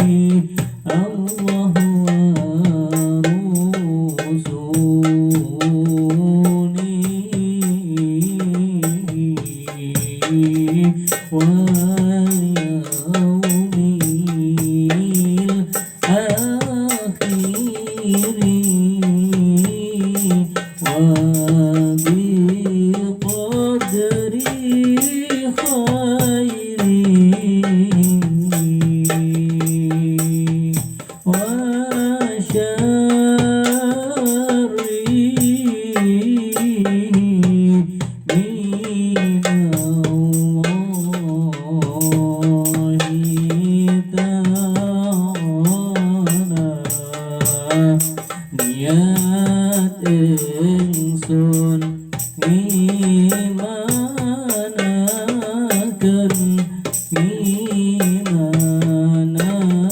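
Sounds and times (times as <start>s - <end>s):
frame drum and jingle percussion: 0.0s - 59.9s
person singing ornamented lines: 0.0s - 59.9s.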